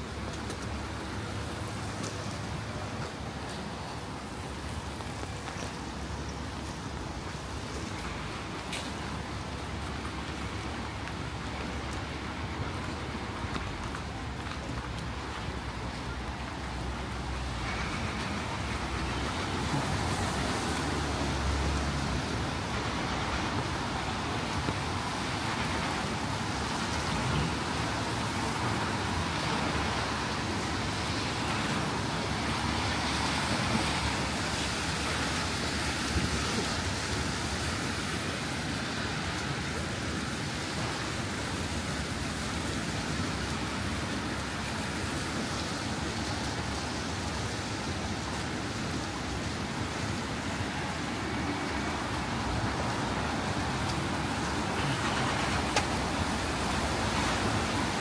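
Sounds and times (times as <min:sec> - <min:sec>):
tyres hissing on wet road: 0:00.0 - 0:58.0.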